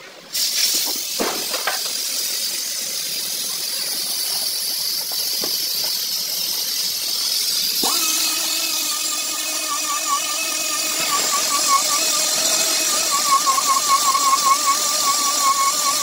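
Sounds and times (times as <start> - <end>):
compressed air hissing: 0.3 - 16.0.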